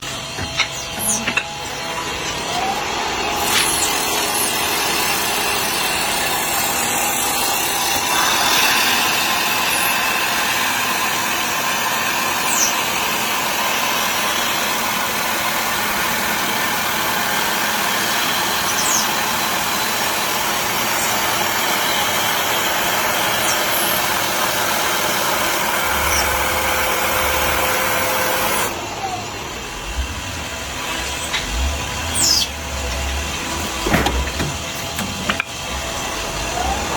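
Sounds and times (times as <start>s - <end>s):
turning tool cutting spinning wood: 0.4s - 36.9s
faint motor hum: 6.0s - 36.9s.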